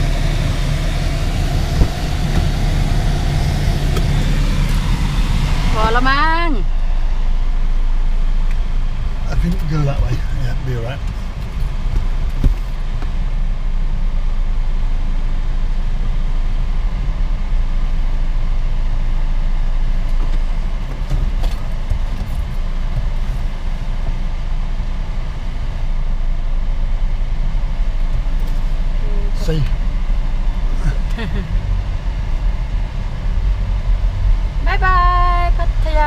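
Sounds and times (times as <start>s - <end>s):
car cabin road rumble: 0.0s - 36.0s.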